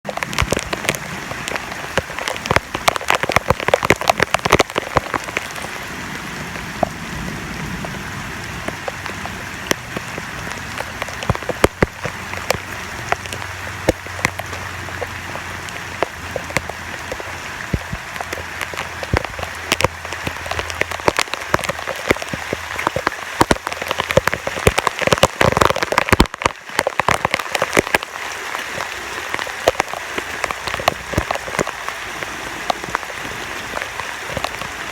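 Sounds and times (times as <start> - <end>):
raindrops spattering on surfaces: 0.0 - 34.9
heavy rain hissing: 0.1 - 34.9.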